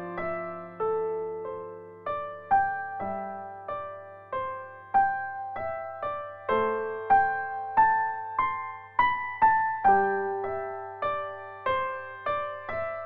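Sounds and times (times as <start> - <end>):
gentle electric piano melody: 0.0 - 13.0.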